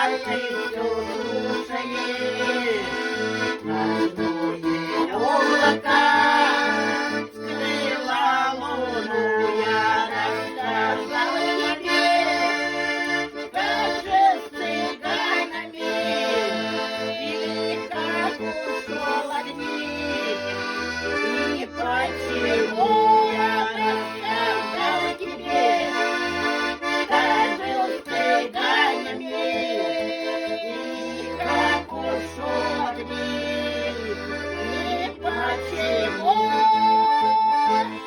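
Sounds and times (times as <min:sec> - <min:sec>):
accordion playing: 0:00.0 - 0:38.0.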